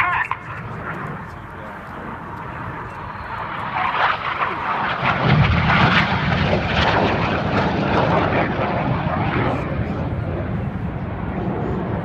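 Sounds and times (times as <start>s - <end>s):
jet aircraft flying past: 0.0s - 12.0s.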